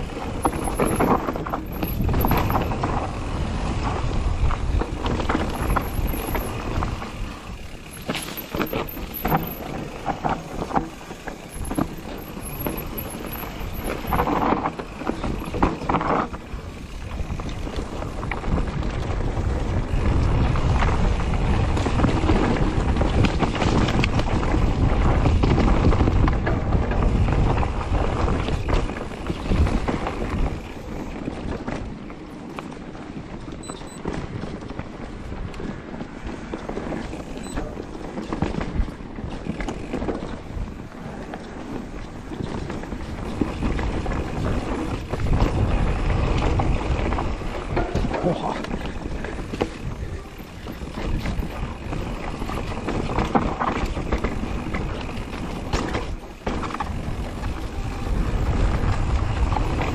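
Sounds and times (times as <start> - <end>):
bike tyres clattering over bumps: 0.0 - 59.9
wind rushing over microphone: 0.0 - 59.9.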